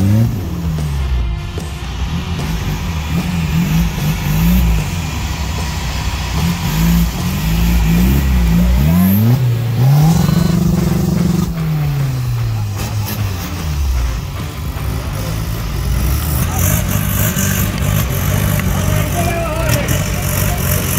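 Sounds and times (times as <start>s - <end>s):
buggy engine revving hard: 0.0s - 20.9s.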